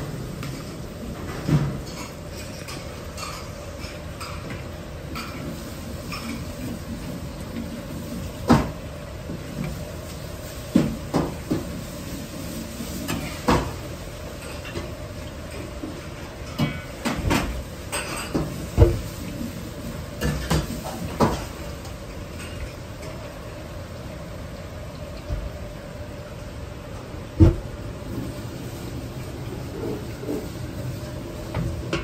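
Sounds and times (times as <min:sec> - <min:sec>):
oil bubbling in a wok: 0:00.0 - 0:32.0.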